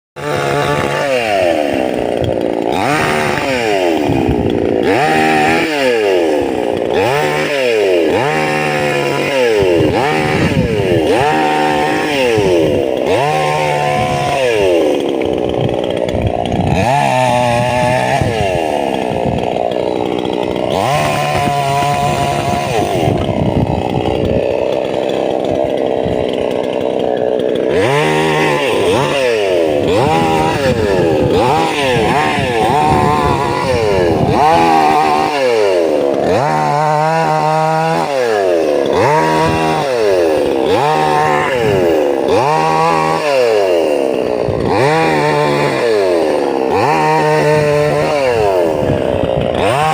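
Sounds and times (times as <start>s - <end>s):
chainsaw engine revving: 0.2s - 49.9s.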